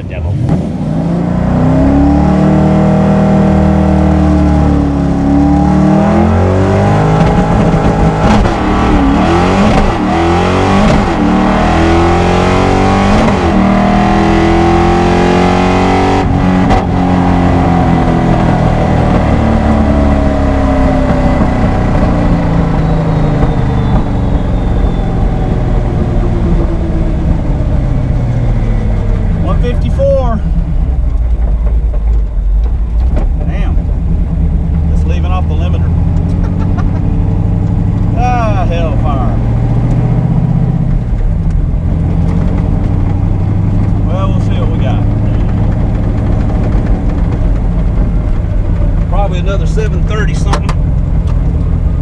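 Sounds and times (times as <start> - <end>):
drag car engine at full throttle: 0.0 - 52.0.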